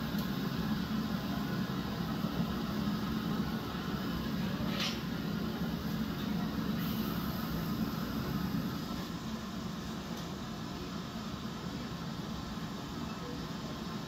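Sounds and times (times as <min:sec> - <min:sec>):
furnace burners rumbling: 0:00.0 - 0:14.0.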